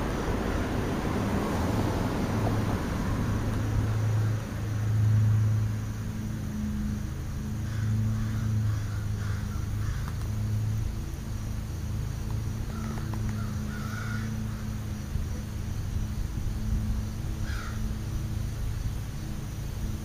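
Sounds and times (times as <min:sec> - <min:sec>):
car driving past: 0:00.0 - 0:20.0
low engine hum: 0:00.0 - 0:20.0.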